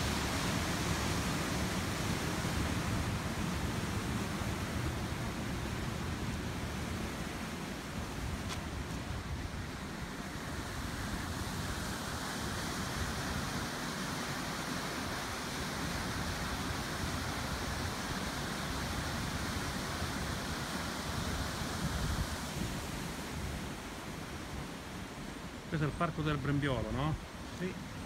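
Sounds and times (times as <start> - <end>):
wind on microphone: 0.0 - 24.9.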